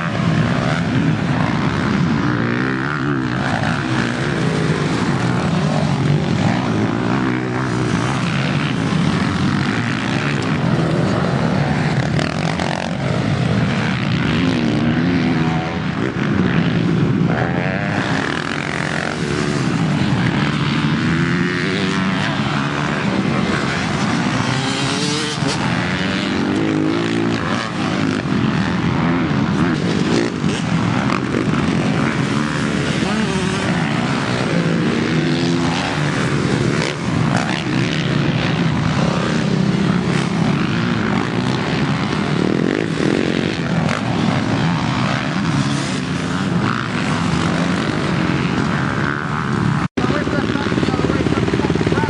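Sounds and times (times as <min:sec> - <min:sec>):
off-road engines revving: 0:00.0 - 0:52.0.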